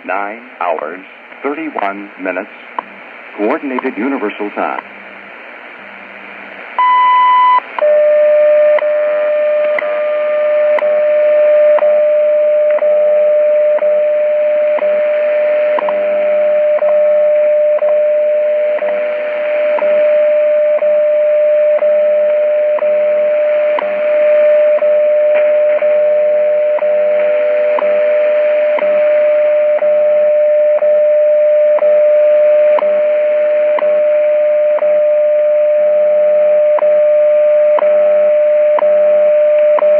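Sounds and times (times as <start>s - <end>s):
steady radio tone: 0.0s - 4.9s, 6.7s - 39.9s
shortwave static: 0.0s - 39.9s
long radio beep: 6.8s - 39.9s.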